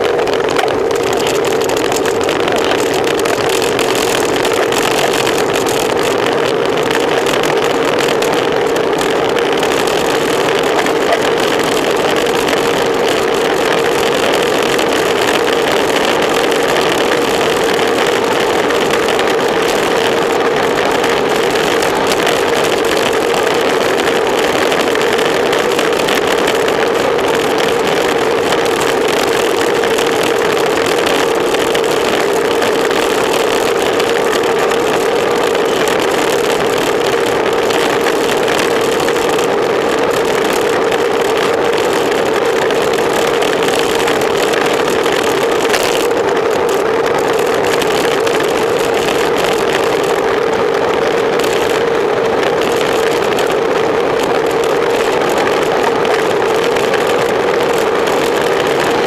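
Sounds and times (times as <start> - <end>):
bicycle tyre noise: 0.0 - 59.0
mid-pitched hum: 0.0 - 59.0
wind rush: 0.0 - 59.0.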